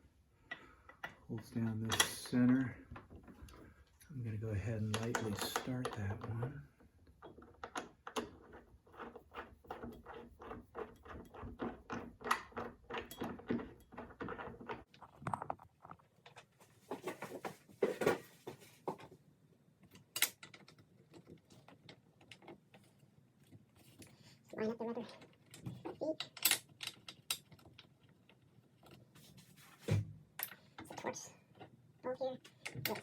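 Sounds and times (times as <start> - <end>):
parts knocking and rattling: 0.1 - 19.2, 19.8 - 31.8.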